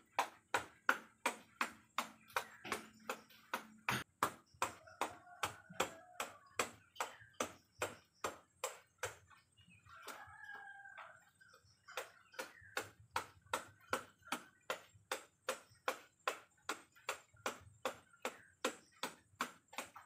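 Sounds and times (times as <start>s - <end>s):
cleaver chopping coconut: 0.0s - 11.0s, 11.8s - 20.0s.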